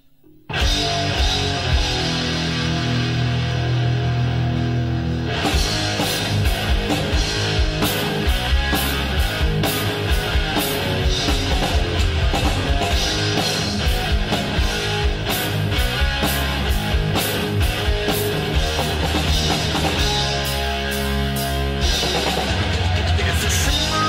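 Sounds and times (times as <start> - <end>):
heavy metal band playing: 0.5 - 24.0.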